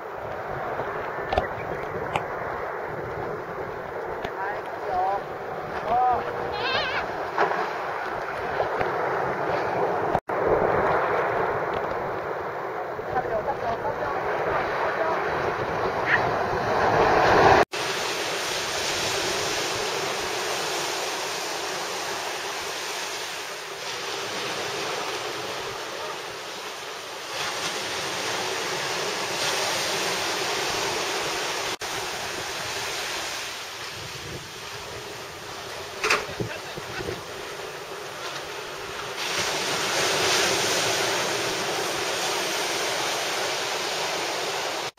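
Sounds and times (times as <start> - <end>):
wind on microphone: 0.0 - 26.6, 27.2 - 44.9
small waves washing: 0.0 - 44.9.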